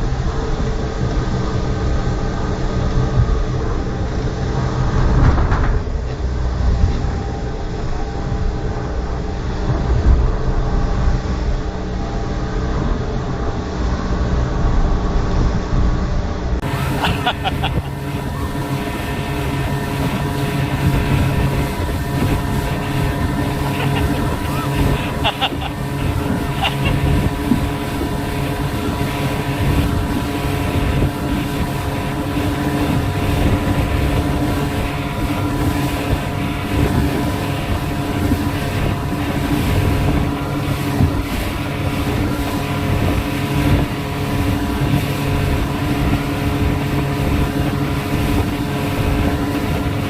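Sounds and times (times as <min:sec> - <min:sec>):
speedboat engine running: 0:00.0 - 0:50.0
wind and rushing water: 0:00.0 - 0:50.0.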